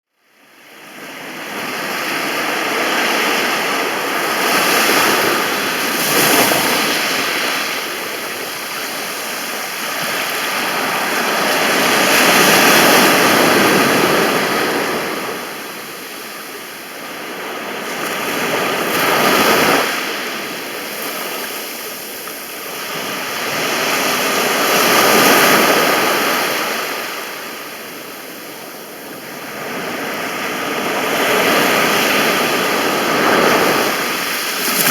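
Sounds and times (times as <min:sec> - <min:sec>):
sea waves breaking on beach: 0:00.6 - 0:34.9.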